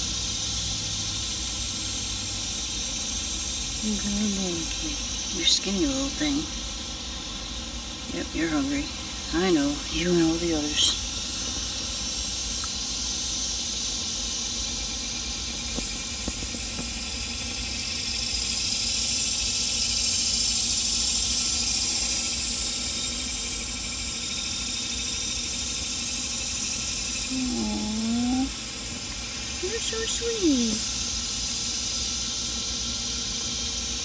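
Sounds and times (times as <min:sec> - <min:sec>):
outdoor background hiss: 0:00.0 - 0:34.0.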